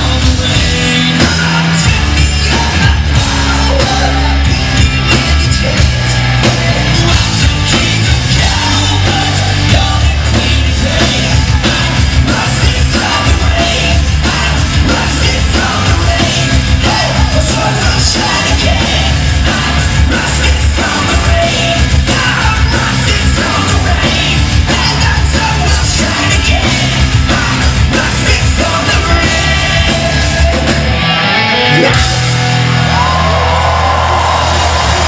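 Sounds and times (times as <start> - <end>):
bass guitar: 0.0 - 35.0
distorted electric guitars: 0.0 - 35.0
drums: 0.0 - 35.0
person yelling lead vocal: 0.0 - 35.0.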